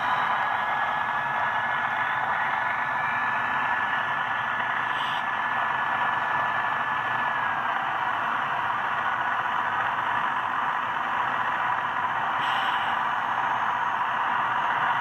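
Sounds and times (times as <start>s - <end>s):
model locomotive running with whine: 0.0s - 15.0s.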